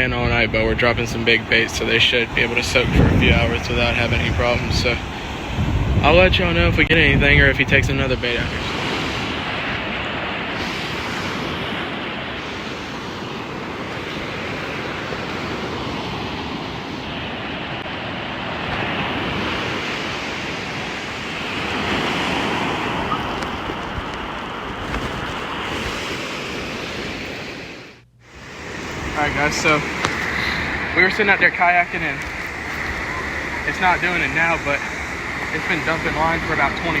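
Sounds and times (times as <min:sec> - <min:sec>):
ocean surf washing onto beach: 0:00.0 - 0:37.0
wind buffeting microphone: 0:00.0 - 0:37.0.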